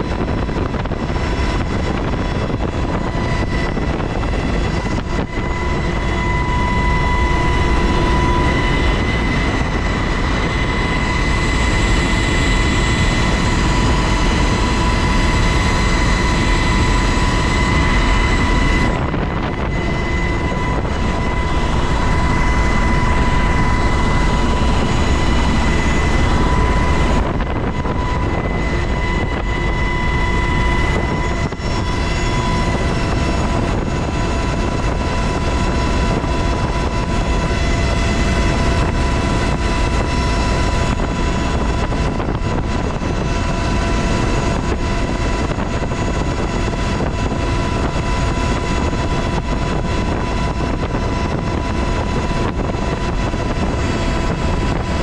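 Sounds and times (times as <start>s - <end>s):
helicopter rotor and engine noise: 0.0s - 55.0s
high-pitched whine: 0.0s - 55.0s.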